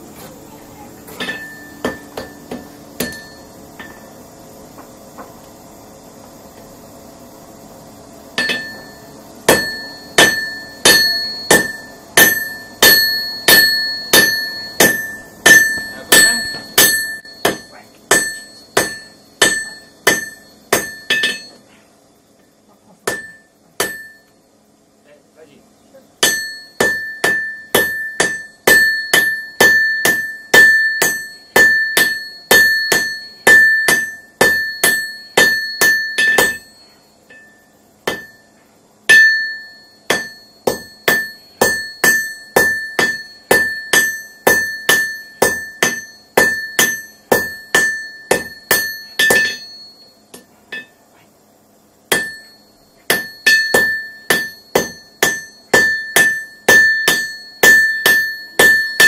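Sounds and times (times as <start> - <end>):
hammer striking anvil: 1.2 - 4.2, 8.4 - 21.6, 23.0 - 24.3, 26.2 - 51.0, 52.1 - 59.0.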